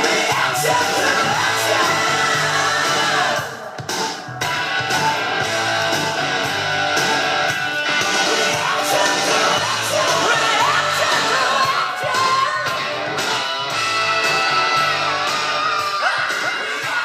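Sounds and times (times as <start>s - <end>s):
rock song from vinyl record: 0.0s - 17.0s.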